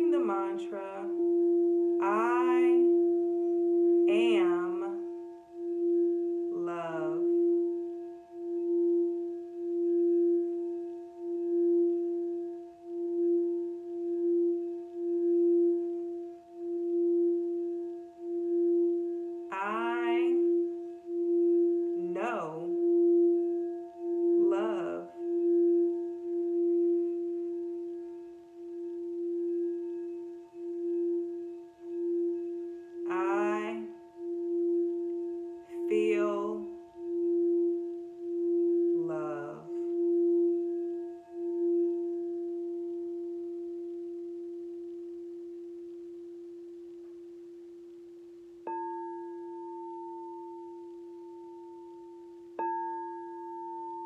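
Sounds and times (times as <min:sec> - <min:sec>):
singing bowl ringing: 0:00.0 - 0:54.0.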